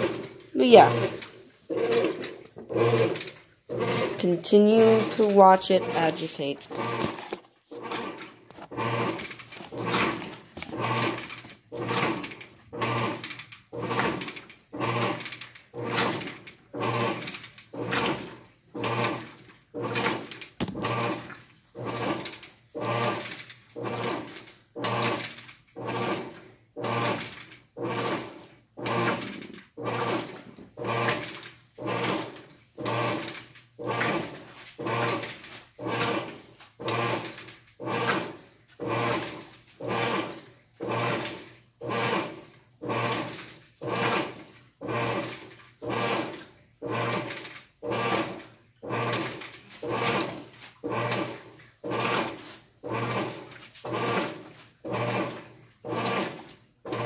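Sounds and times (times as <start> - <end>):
washing machine agitating: 0.0 - 57.0.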